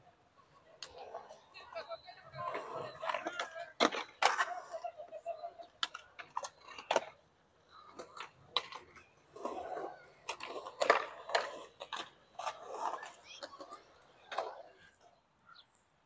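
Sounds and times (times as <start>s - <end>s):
skateboard wheels rolling: 0.0s - 16.0s
skateboard wooden clacks: 0.7s - 15.1s.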